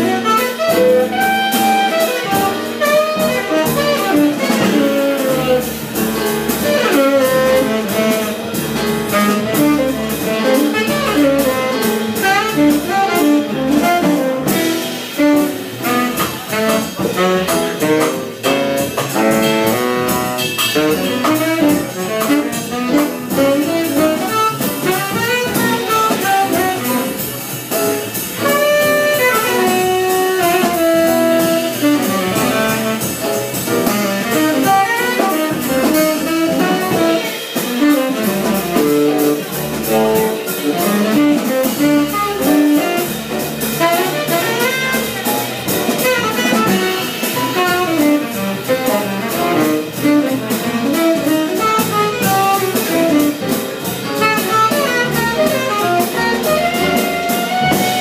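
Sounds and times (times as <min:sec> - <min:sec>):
saxophone playing quick runs: 0:00.0 - 0:27.4, 0:28.1 - 0:58.0
drum kit with cymbals: 0:00.0 - 0:58.0
upright bass: 0:00.0 - 0:58.0.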